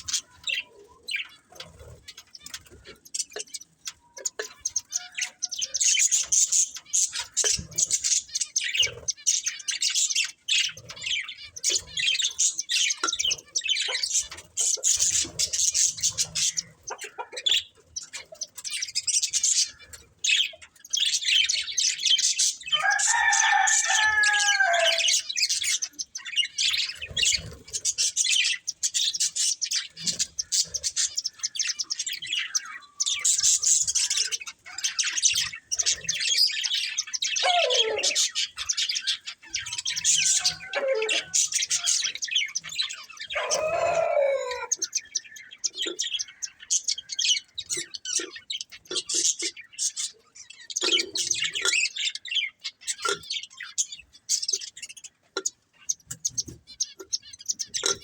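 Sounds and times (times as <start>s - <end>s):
budgerigars chirping and warbling: 0.0s - 58.0s
drawn-out bird calls: 0.0s - 58.0s.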